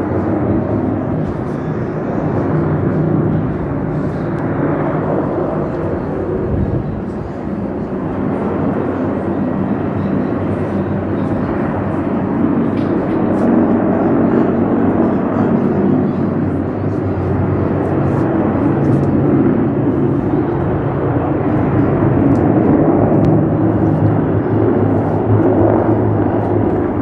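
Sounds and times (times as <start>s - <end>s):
helicopter rotor and turbine drone: 0.0s - 27.0s.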